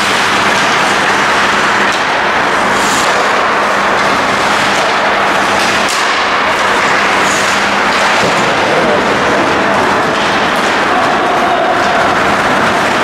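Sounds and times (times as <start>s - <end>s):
skates scraping ice: 0.0s - 13.0s.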